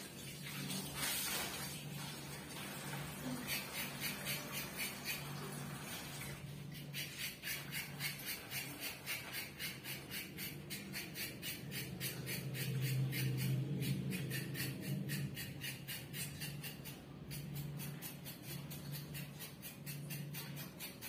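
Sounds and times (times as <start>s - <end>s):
scraping strokes by hand: 3.0s - 21.0s.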